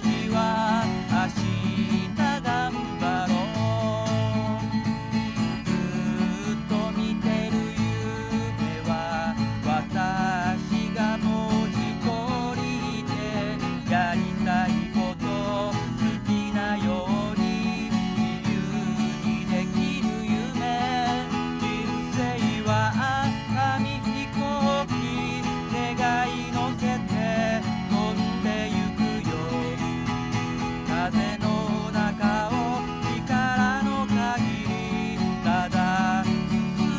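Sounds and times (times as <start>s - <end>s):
acoustic guitar strumming: 0.0s - 36.9s
man singing pop ballad: 0.0s - 36.9s.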